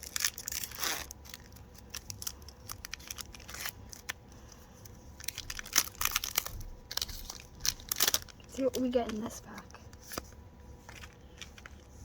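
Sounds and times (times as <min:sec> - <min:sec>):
foil wrapper crinkling: 0:00.0 - 0:10.2.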